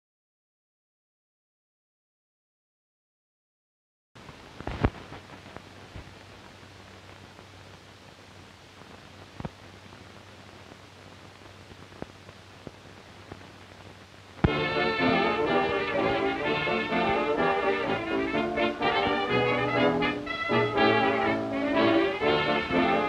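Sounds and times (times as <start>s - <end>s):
faint low hum: 4.2s - 23.0s
film soundtrack hiss and crackle: 4.2s - 23.0s.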